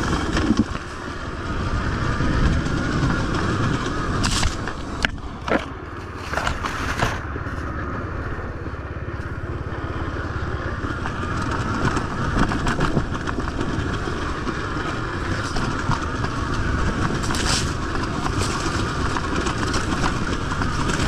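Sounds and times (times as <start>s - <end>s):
bike knocks and rattles: 0.0s - 1.2s, 1.9s - 7.8s, 10.7s - 21.0s
dirt bike engine running: 0.0s - 21.0s.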